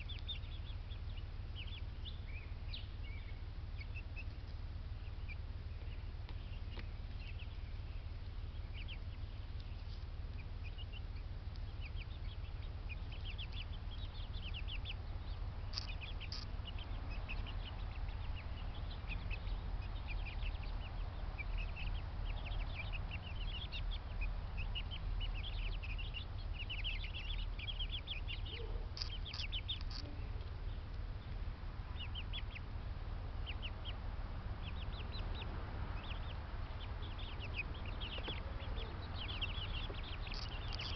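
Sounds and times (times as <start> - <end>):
small birds chirping: 0.0 - 40.9
steady low hum: 0.0 - 40.9.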